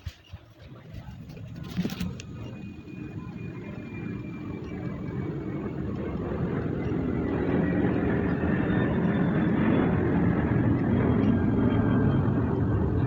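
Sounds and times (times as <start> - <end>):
loud vehicle-like rumble: 0.7 - 13.0.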